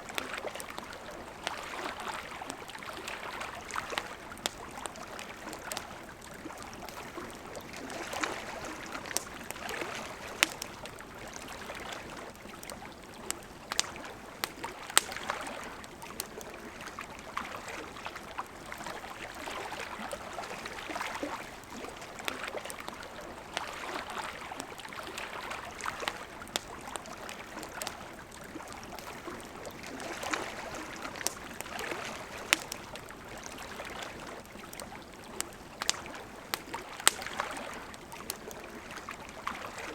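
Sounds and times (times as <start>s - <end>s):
campfire crackling and popping: 0.0s - 39.9s
river flowing: 0.0s - 39.9s.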